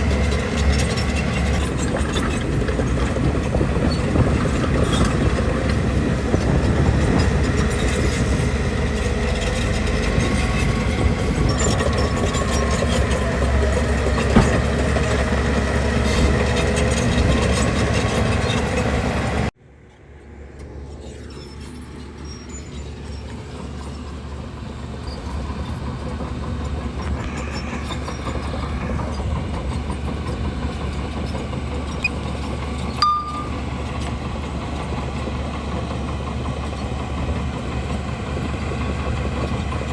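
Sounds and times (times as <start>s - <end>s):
bulldozer diesel engine running: 0.0s - 19.6s, 20.3s - 39.9s.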